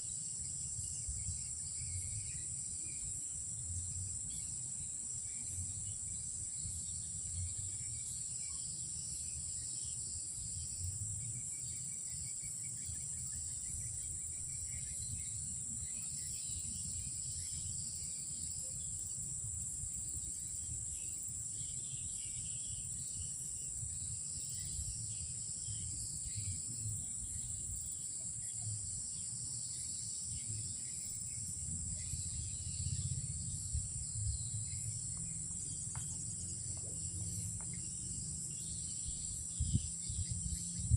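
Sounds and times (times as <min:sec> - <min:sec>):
insects droning: 0:00.0 - 0:40.9
rapid insect chirps: 0:00.0 - 0:40.9.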